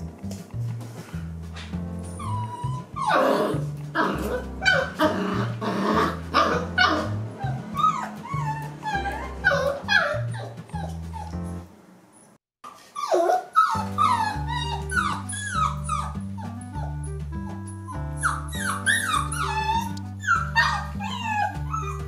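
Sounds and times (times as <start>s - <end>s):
background music with bass line: 0.0s - 11.7s, 13.8s - 22.0s
puppy yipping and whimpering: 2.0s - 22.0s.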